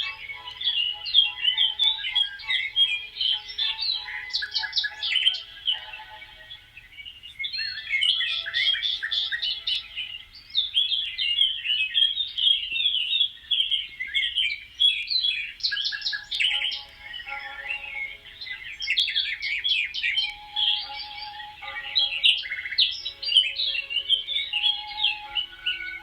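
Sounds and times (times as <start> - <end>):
many small birds chirping: 0.0 - 26.0.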